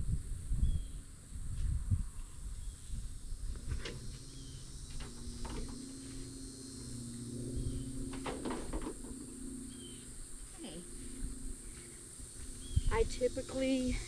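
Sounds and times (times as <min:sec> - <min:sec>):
constant high hiss: 0:00.0 - 0:14.0
steady low hum: 0:00.0 - 0:14.0.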